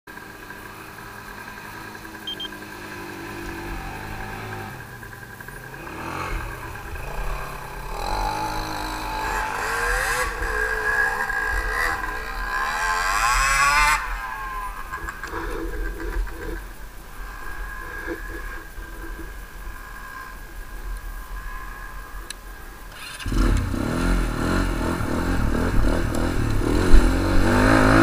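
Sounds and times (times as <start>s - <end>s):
atv engine idling and revving: 0.1s - 28.0s.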